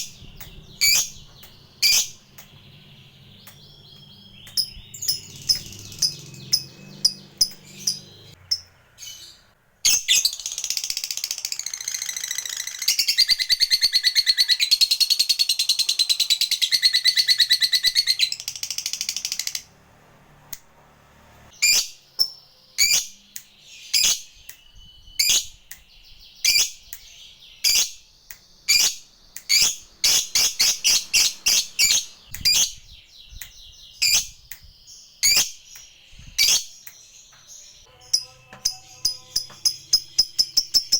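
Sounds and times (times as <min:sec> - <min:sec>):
lovebird chirping and trilling: 0:00.0 - 0:19.7, 0:21.6 - 0:40.9.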